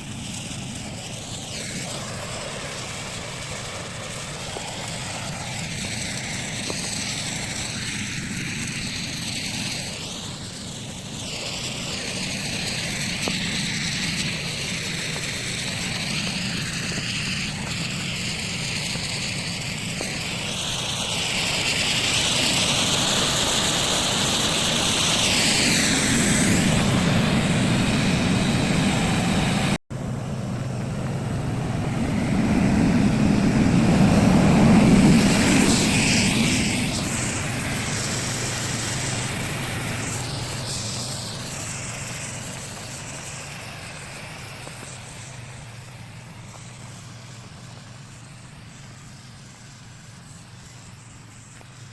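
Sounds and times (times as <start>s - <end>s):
snow machine running: 0.0s - 51.9s.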